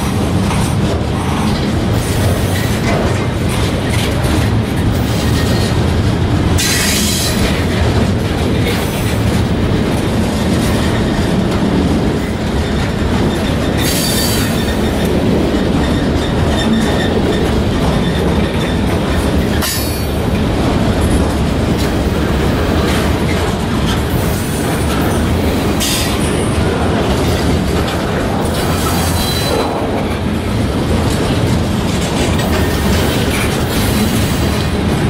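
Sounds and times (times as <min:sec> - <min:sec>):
freight train wheels rumbling on rails: 0:00.0 - 0:35.0
wheels clacking over rail joints: 0:00.0 - 0:35.0.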